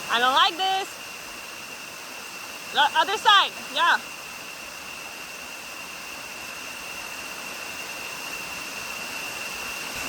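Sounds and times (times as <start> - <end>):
small waterfall rushing: 0.0 - 10.0.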